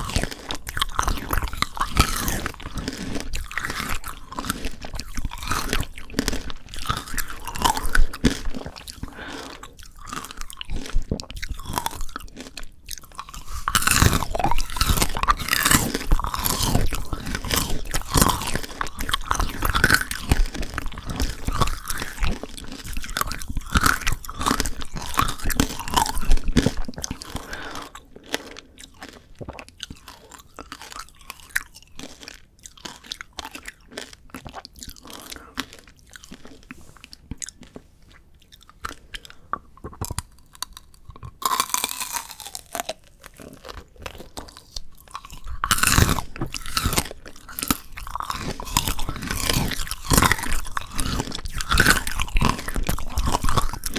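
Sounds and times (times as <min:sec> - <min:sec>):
candy shell crunching between teeth: 0:00.0 - 0:53.9.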